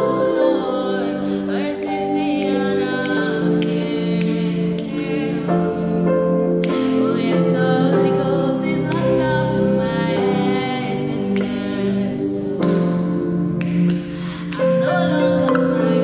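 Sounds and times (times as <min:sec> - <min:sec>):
sustained chords: 0:00.0 - 0:16.0
woman singing slow melody: 0:00.0 - 0:16.0.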